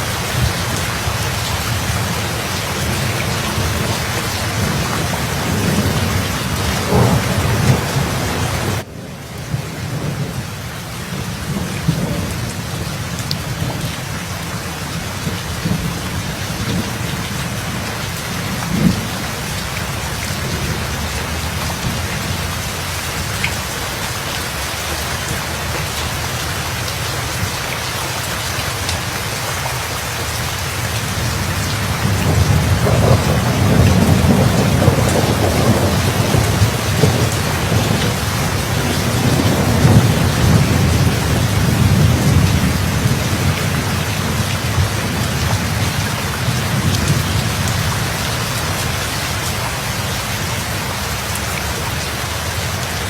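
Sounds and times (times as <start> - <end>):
thunder rumble: 0.0 - 27.4, 30.8 - 49.1
heavy rain falling: 0.0 - 53.0.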